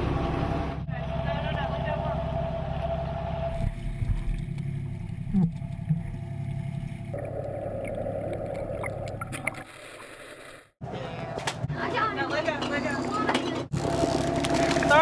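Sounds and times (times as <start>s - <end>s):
boat engine running: 0.0s - 9.3s, 11.7s - 15.0s
water around hull: 0.0s - 10.8s, 12.3s - 15.0s.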